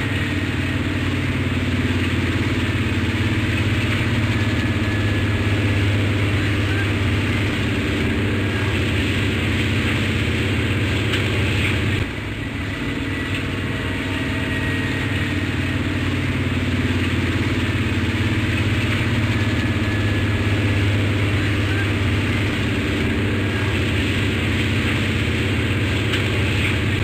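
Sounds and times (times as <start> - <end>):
helicopter rotor chop: 0.0 - 27.0
low engine drone: 0.0 - 27.0.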